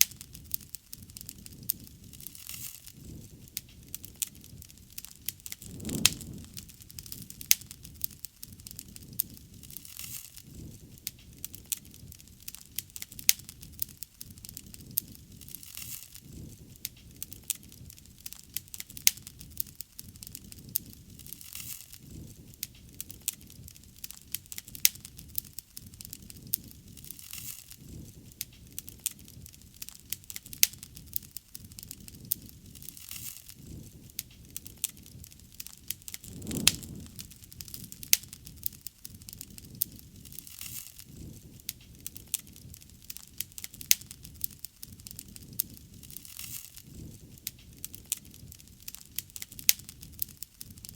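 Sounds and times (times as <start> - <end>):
low rumble of flame: 0.0 - 15.6, 16.2 - 21.4, 27.8 - 50.9
wood fire crackling and popping: 0.0 - 50.9.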